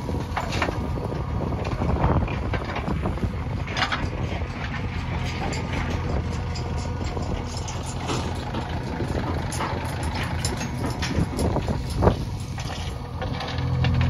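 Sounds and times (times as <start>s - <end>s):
diesel engine running: 0.0s - 14.0s
knocks and clatter: 0.0s - 14.0s.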